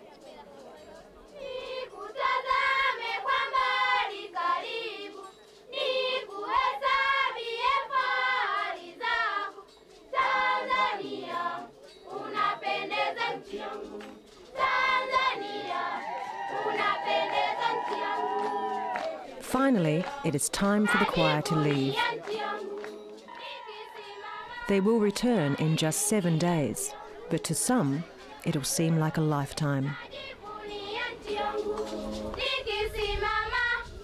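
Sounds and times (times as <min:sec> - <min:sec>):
children's choir singing: 0:01.3 - 0:34.0.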